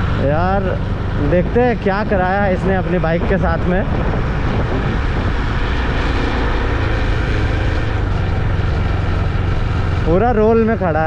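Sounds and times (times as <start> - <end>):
motorcycle engine running: 0.0 - 11.0
rushing wind noise: 0.0 - 11.0.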